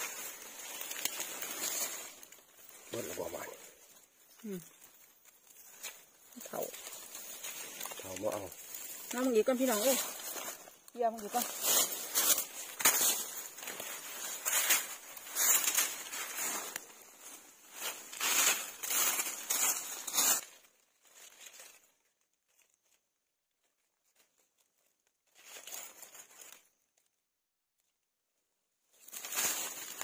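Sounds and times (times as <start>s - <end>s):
dry leaves rustling and crackling: 0.0s - 27.0s, 28.8s - 30.0s.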